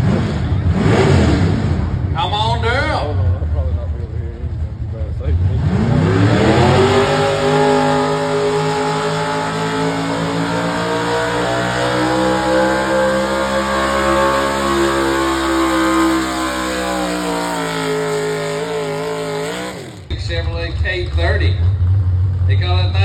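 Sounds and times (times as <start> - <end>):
pickup engine at full throttle: 0.0 - 23.0.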